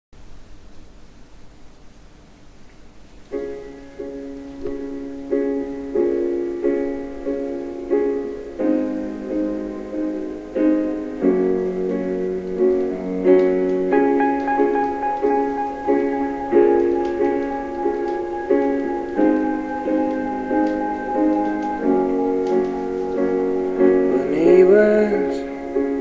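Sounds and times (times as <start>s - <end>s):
piano playing repeated chords: 3.2s - 26.0s.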